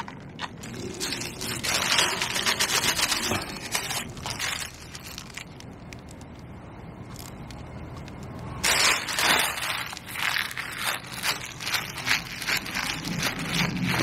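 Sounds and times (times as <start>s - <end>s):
plastic bag crinkling: 0.0s - 6.5s, 7.1s - 14.0s.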